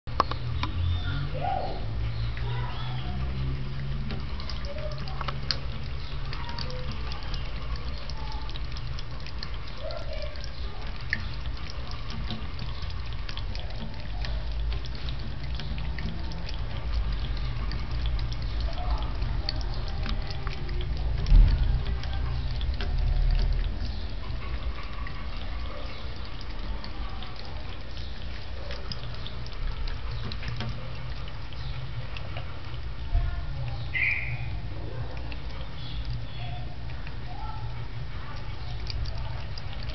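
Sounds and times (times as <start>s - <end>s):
cat lapping water: 0.1s - 39.9s
water dripping: 0.1s - 39.9s.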